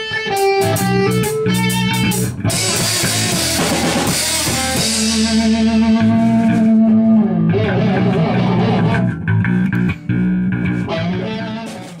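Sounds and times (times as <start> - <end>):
bass guitar: 0.0 - 12.0
electric guitar playing rock: 0.0 - 12.0.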